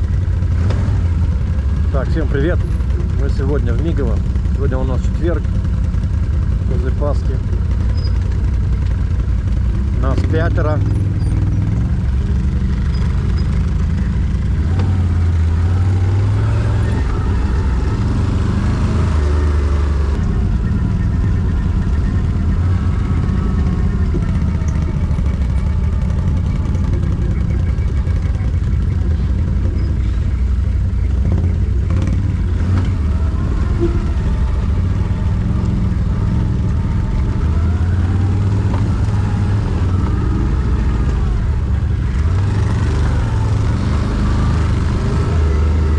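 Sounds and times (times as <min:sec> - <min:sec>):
quad bike engine running: 0:00.0 - 0:45.9.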